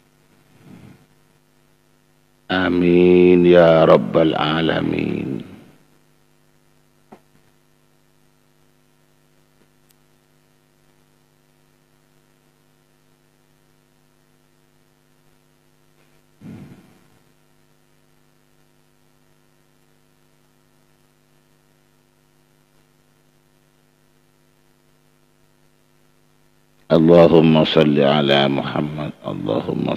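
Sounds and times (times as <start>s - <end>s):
electrical mains hum: 0.0s - 29.9s.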